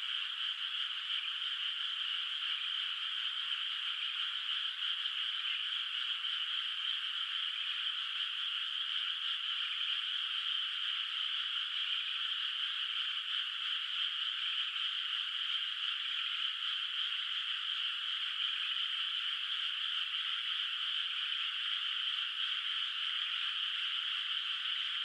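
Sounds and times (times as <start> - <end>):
chorus of frogs trilling: 0.0 - 25.0.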